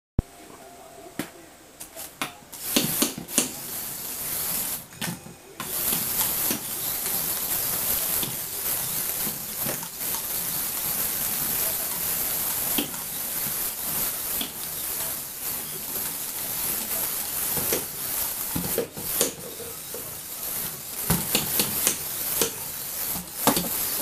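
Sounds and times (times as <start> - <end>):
toy model rolling on wooden floor: 2.6 - 4.9, 5.6 - 24.0
plastic parts clattering on floor: 4.6 - 24.0.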